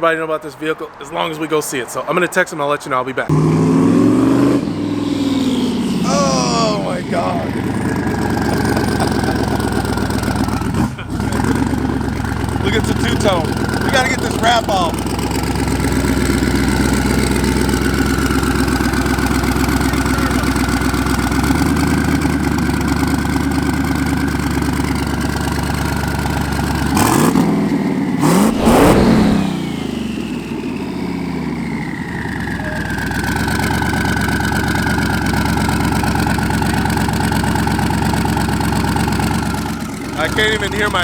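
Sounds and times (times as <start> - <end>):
loud car engine revving: 3.3 - 41.0.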